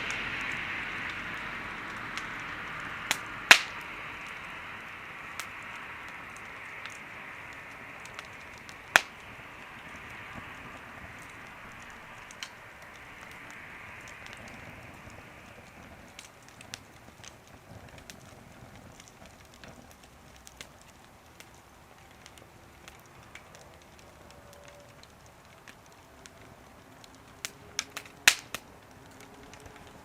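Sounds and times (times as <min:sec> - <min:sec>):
fire soft hiss: 0:00.0 - 0:30.0
wood fire crackling and popping: 0:00.0 - 0:30.0.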